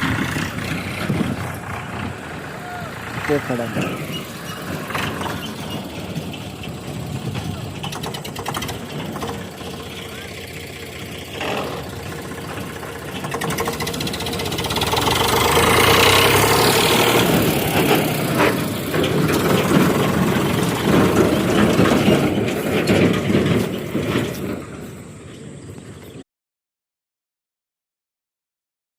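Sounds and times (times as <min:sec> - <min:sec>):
tractor engine knocking: 0:00.0 - 0:26.2.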